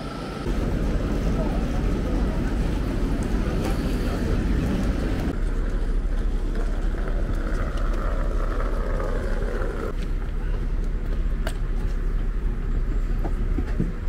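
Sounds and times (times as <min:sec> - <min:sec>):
low rumble of stationary train: 0:00.0 - 0:14.0.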